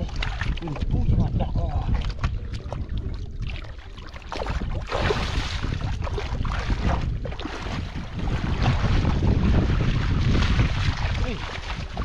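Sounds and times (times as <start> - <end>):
splashing through muddy water: 0.0 - 12.0
wind rumbling on microphone: 0.0 - 12.0.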